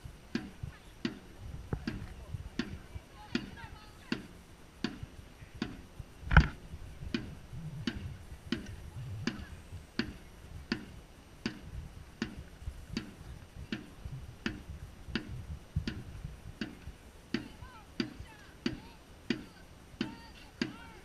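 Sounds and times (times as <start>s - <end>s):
drum beaten at steady pace: 0.0s - 21.0s.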